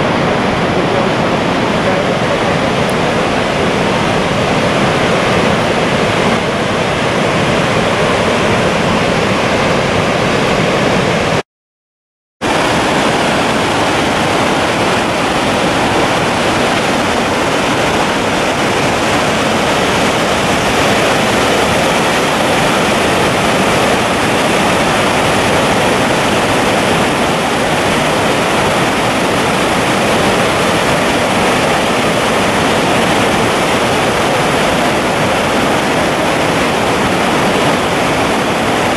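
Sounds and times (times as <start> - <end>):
waterfall rushing: 0.0 - 11.4, 12.4 - 38.9.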